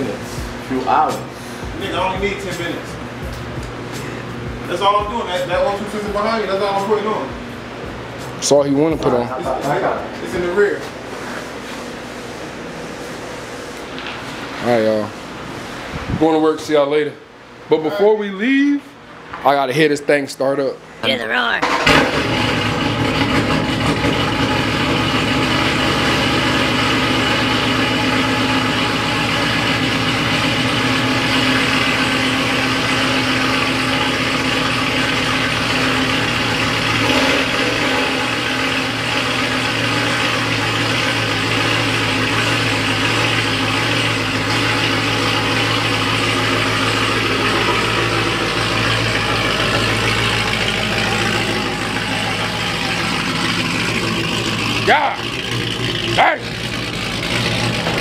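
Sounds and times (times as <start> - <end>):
car engine idling: 0.0 - 15.5, 21.6 - 58.0.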